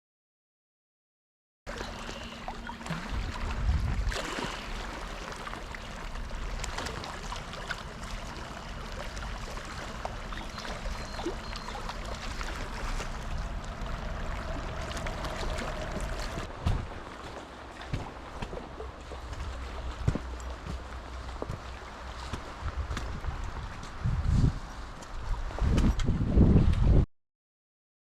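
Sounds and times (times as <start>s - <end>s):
water lapping and splashing: 1.7s - 26.0s
wind rumble on microphone: 1.8s - 27.1s.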